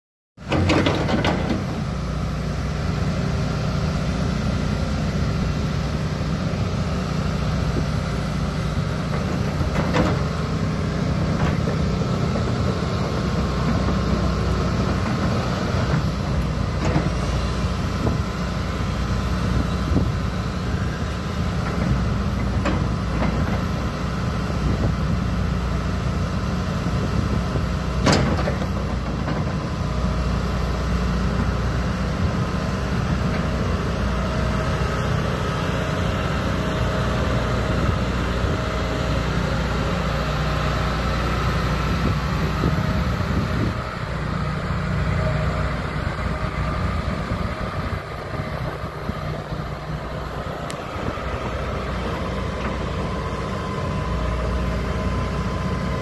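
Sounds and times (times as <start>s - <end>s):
excavator diesel engine running: 0.4s - 56.0s.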